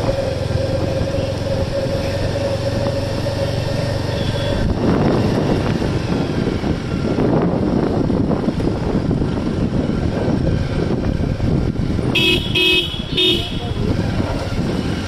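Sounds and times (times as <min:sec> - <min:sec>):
engine whine: 0:00.0 - 0:15.0
vehicle engine hum: 0:00.0 - 0:15.0
wind buffeting microphone: 0:00.0 - 0:15.0.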